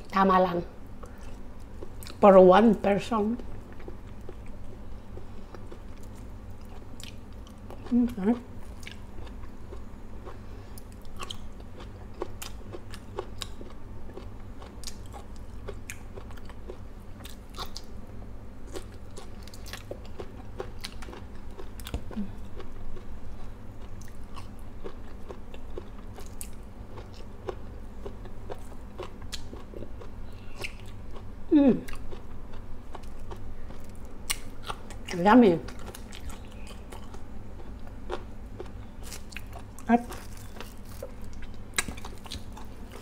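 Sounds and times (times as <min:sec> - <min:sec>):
person chewing wet crunches: 0:03.4 - 0:43.0.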